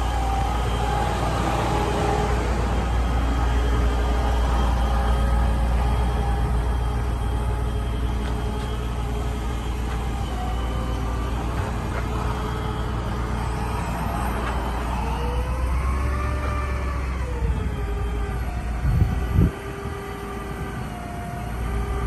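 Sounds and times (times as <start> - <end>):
hydraulic whine: 0.0 - 22.0
truck engine running: 0.0 - 22.0.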